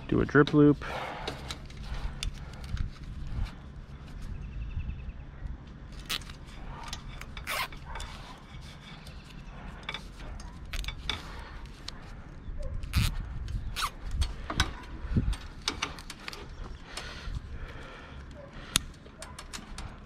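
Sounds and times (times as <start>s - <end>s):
cable hardware clicks and rattles: 0.0s - 3.5s, 5.7s - 12.1s, 12.8s - 20.0s.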